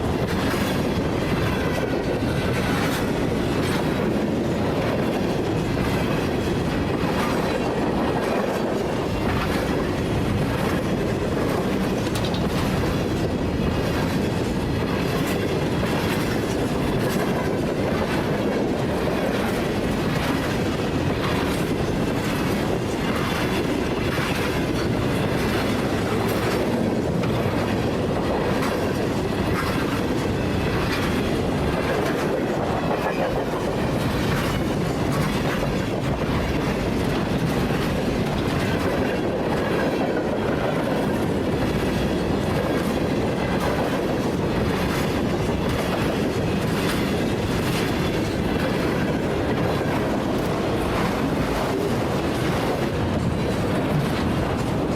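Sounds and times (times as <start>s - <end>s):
freight train cars rolling: 0.0s - 54.9s
wheels clicking over rail joints: 0.0s - 54.9s.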